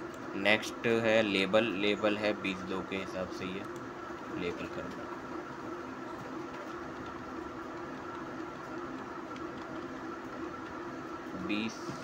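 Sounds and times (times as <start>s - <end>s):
faint constant tones: 0.0s - 12.0s
steady background hum: 0.0s - 12.0s.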